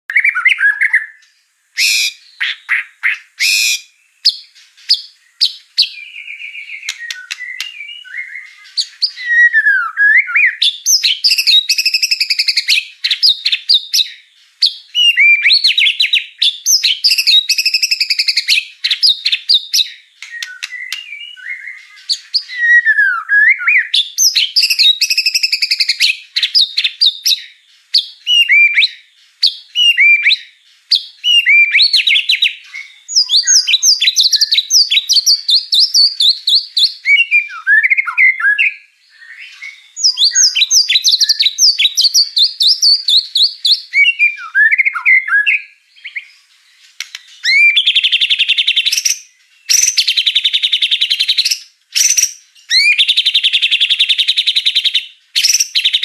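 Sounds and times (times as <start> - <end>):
songbird singing varied song: 0.0 - 56.0.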